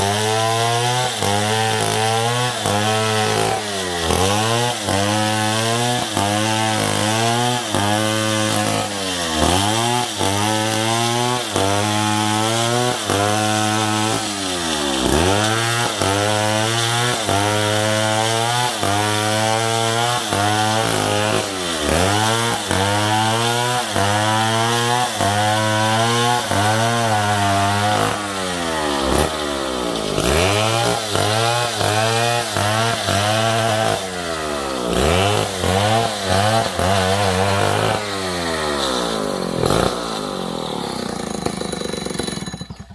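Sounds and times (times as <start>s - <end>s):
chainsaw cutting into wood: 0.0s - 42.9s.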